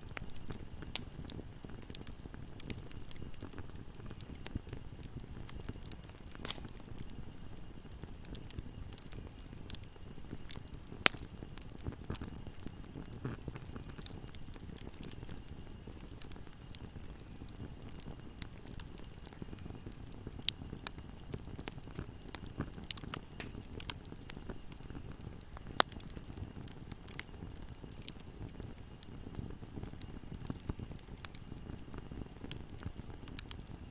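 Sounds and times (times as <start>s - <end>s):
wood fire crackling: 0.0s - 33.9s
sharp pops of fire: 0.2s - 33.6s.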